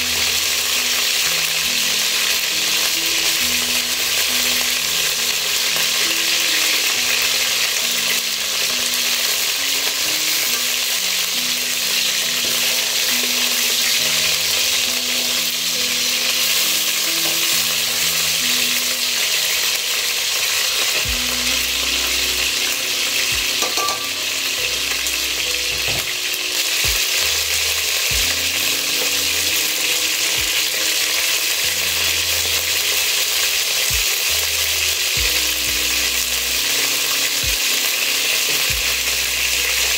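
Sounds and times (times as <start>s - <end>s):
chicken sizzling in hot oil: 0.0s - 39.9s.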